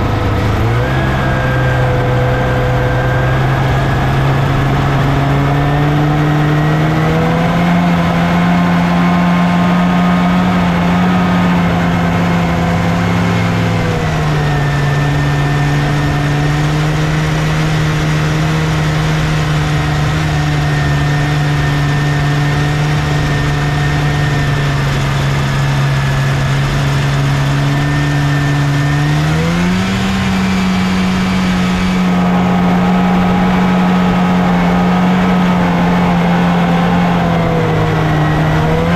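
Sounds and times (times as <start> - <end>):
snowmobile engine under load: 0.0 - 38.9.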